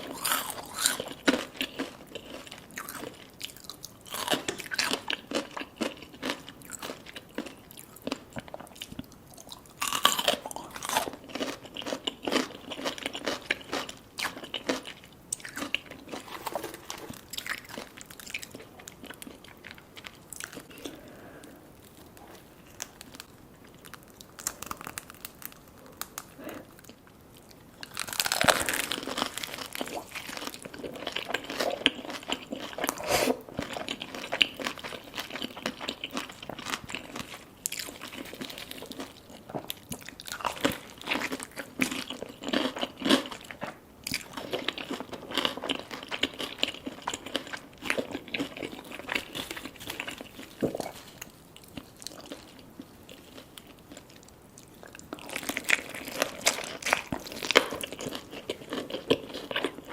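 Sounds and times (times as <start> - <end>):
crunchy bites of fried food: 0.0 - 21.0, 21.9 - 27.0, 27.7 - 59.9.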